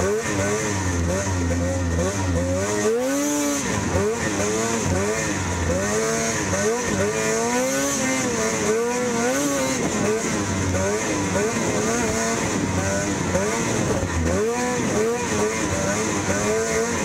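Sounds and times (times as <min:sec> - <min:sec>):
snowmobile engine racing: 0:00.0 - 0:17.0.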